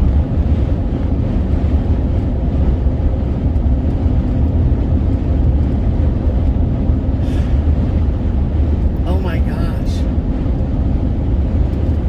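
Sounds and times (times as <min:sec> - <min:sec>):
vehicle cabin road and wind rumble: 0:00.0 - 0:12.0.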